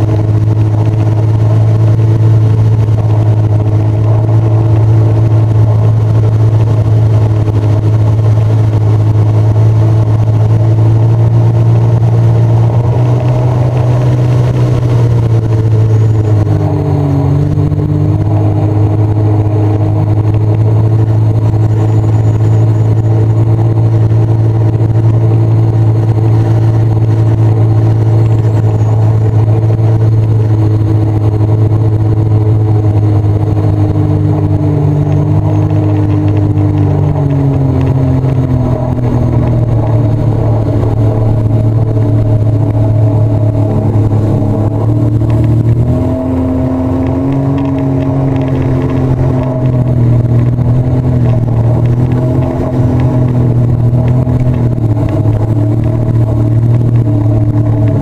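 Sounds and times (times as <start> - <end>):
watercraft engine droning: 0.0 - 58.0.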